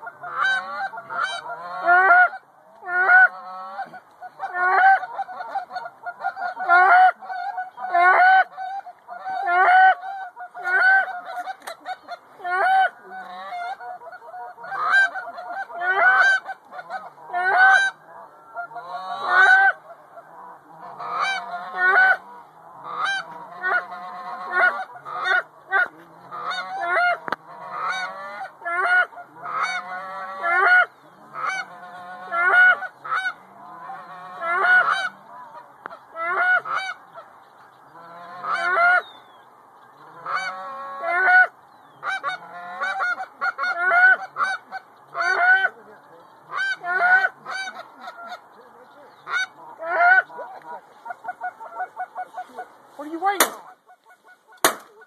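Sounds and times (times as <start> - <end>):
geese honking: 0.0 - 39.3, 39.9 - 55.0.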